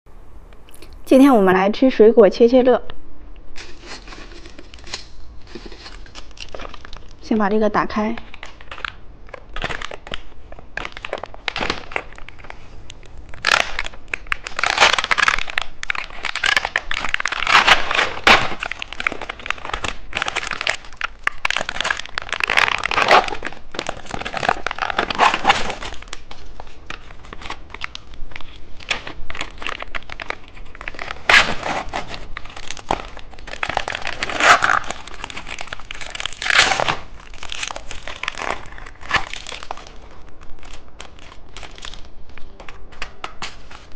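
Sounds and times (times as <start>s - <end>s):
plastic packaging crinkling: 3.6s - 43.9s.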